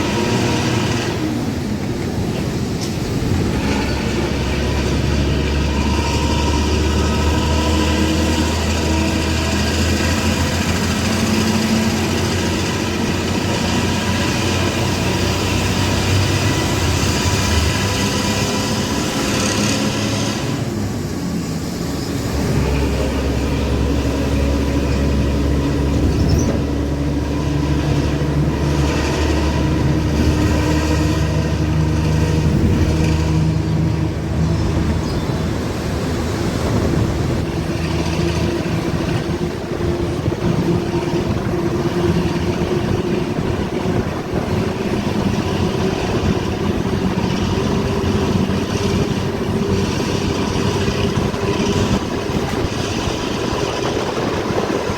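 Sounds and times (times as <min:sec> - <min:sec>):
bus diesel engine growling: 0:00.0 - 0:54.9.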